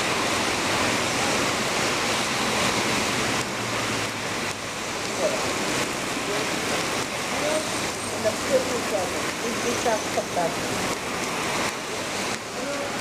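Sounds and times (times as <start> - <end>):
cars passing on wet road: 0.0 - 13.0
heavy rain on pavement: 0.0 - 13.0.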